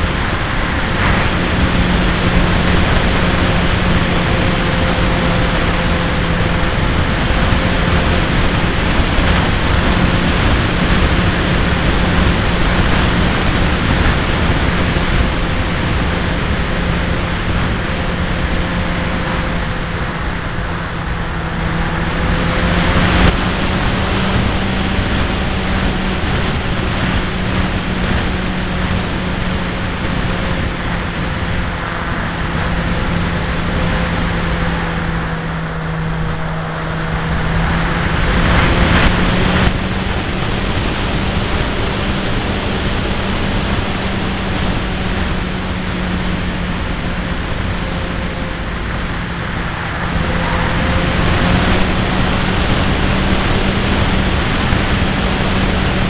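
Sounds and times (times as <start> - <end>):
model plane engine running: 0.0 - 56.0
wind rush on microphone: 0.0 - 56.0.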